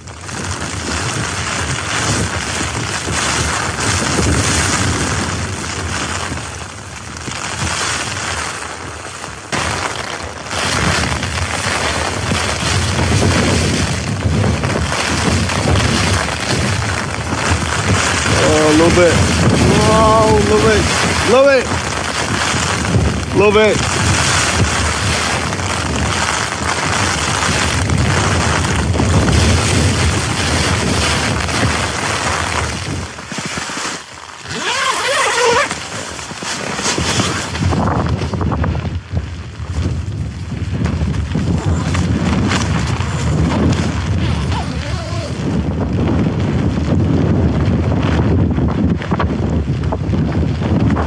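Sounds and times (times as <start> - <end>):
tent fabric shaking: 0.0 - 51.0
wind gusts buffeting tent: 0.0 - 51.0.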